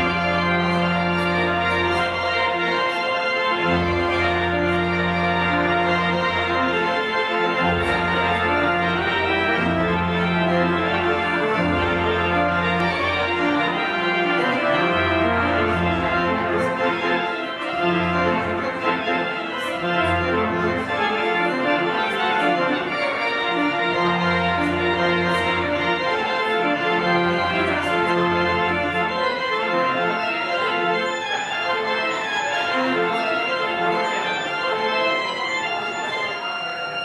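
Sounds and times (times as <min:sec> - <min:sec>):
low organ pedal bass: 0:00.0 - 0:32.3
church organ chords: 0:00.0 - 0:37.0.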